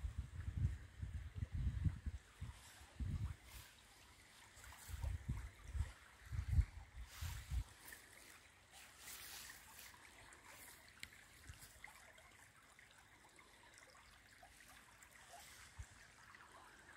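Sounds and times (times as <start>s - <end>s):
brook trickling over stones: 0.0s - 16.9s.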